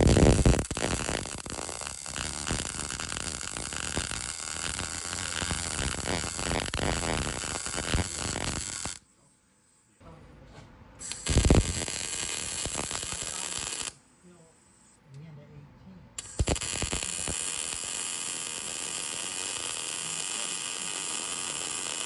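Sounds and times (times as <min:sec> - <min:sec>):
welding arc crackling: 0:00.0 - 0:09.0, 0:11.0 - 0:14.0, 0:16.2 - 0:22.0.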